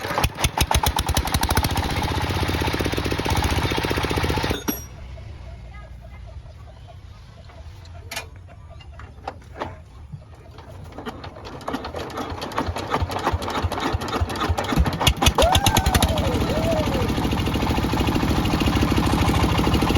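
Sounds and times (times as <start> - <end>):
diesel engine knocking and firing: 0.0 - 5.1, 8.9 - 19.9.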